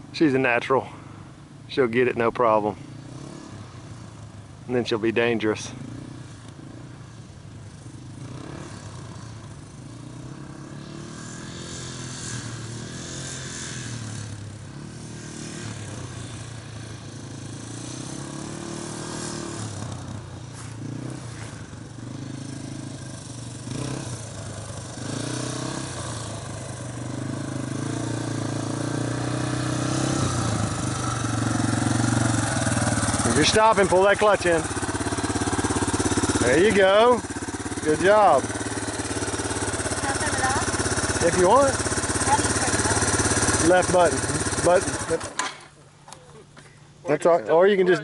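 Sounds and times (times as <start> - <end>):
dirt bike engine revving: 2.9 - 45.7.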